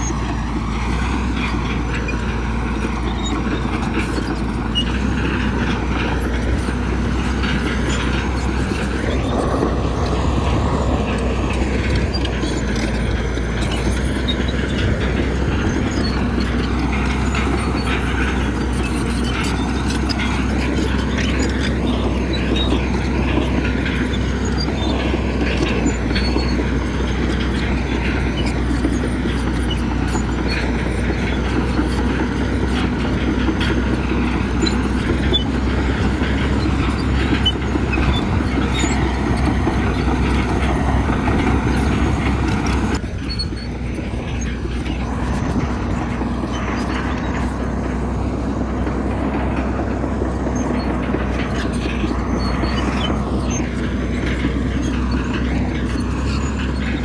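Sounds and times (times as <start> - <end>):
heavy diesel machinery clattering: 0.0 - 57.0.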